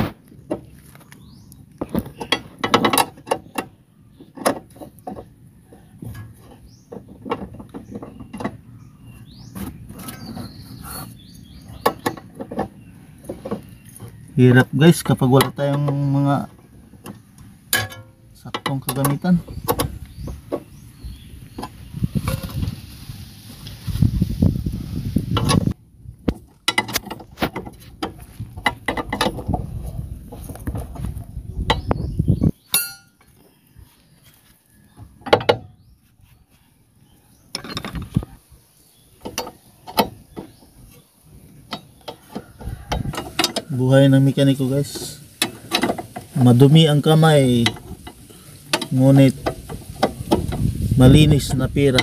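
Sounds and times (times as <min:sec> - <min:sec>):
low handling rumble: 0:03.7 - 0:33.8, 0:36.9 - 0:52.0.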